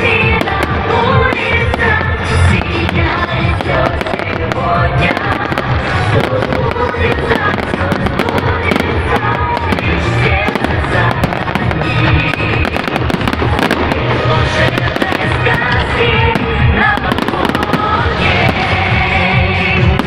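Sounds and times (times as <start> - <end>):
continuous rumble: 0.0 - 20.0
fireworks bangs and crackles: 0.0 - 20.0
music playing: 0.0 - 20.0.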